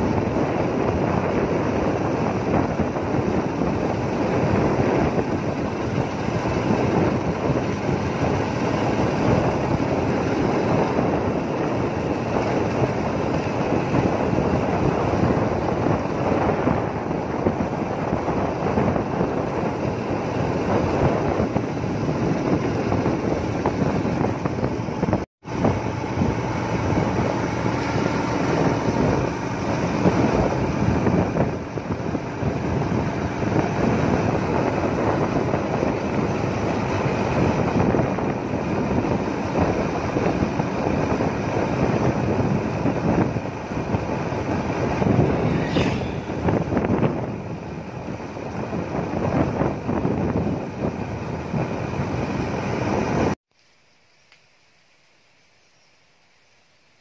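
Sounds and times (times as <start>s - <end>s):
vehicle engine and road noise: 0.0s - 53.4s
wind rushing over microphone: 0.0s - 53.4s.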